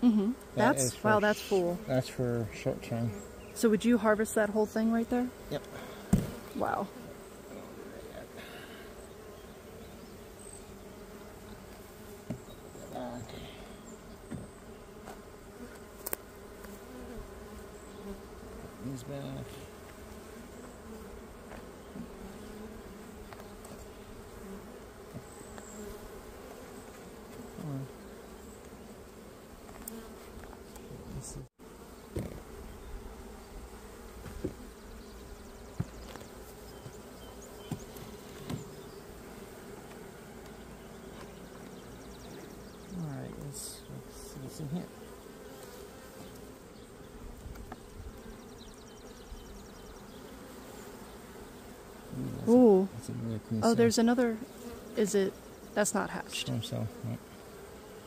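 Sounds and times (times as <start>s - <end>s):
honeybees buzzing: 0.0s - 58.0s.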